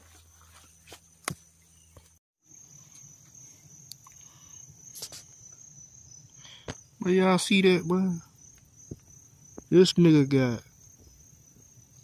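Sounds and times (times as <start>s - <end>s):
insects trilling: 0.1s - 12.0s.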